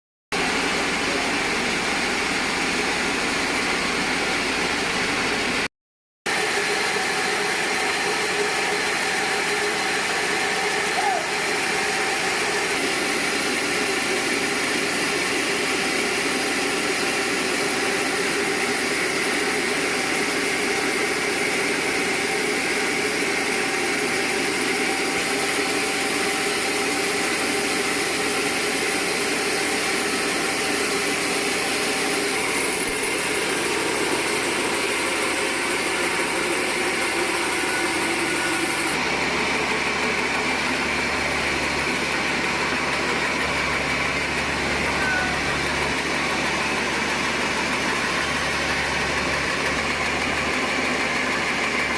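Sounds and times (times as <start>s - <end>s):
sawmill machinery drone and hiss: 0.4s - 5.7s, 6.3s - 51.9s.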